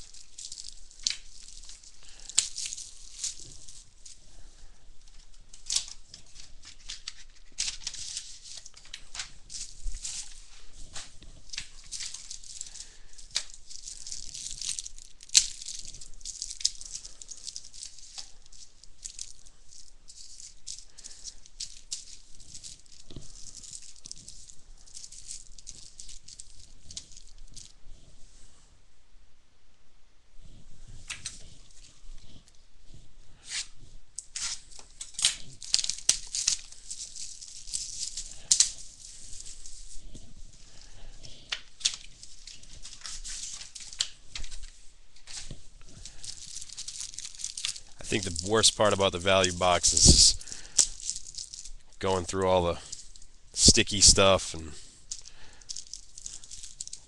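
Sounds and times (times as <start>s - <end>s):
packaging crinkling and tearing: 0.0s - 27.7s, 33.6s - 57.0s.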